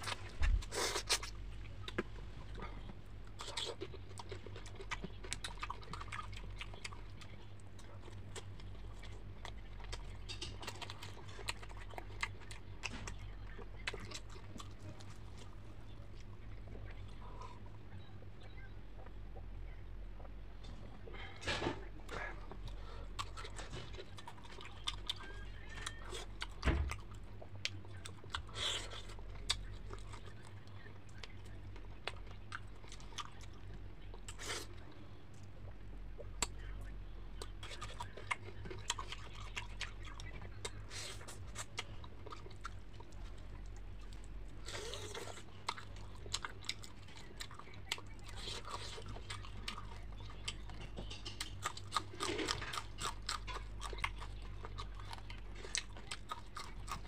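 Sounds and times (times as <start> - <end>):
person chewing fried fish: 0.0 - 17.8, 22.1 - 35.5, 37.4 - 57.0
steady low hum: 0.0 - 57.0.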